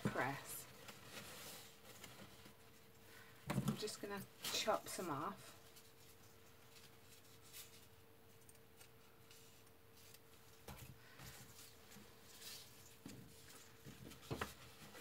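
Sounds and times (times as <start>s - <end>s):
faint steady hum: 0.0s - 15.0s
gift bag and ribbon rustling: 0.0s - 15.0s.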